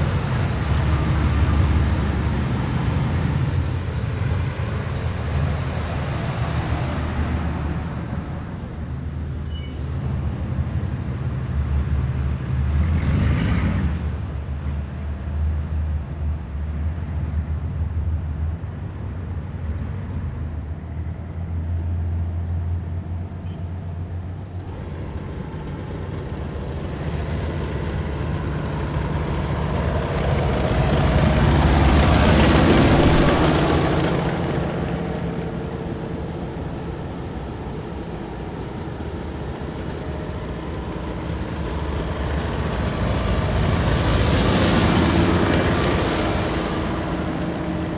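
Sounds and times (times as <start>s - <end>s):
heavy vehicles droning past: 0.0s - 47.9s.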